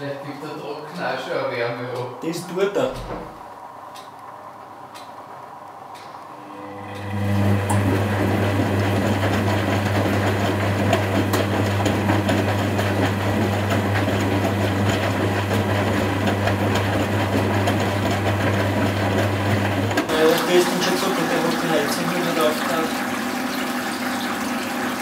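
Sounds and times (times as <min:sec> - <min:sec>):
washing machine running: 0:00.0 - 0:25.0.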